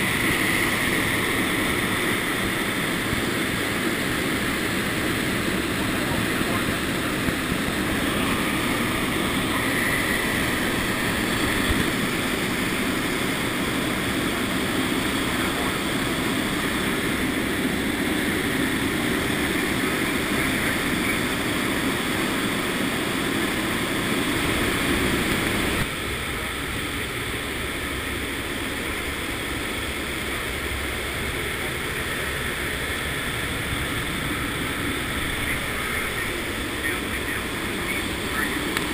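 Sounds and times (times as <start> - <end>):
turboprop engines in flight: 0.0 - 38.9.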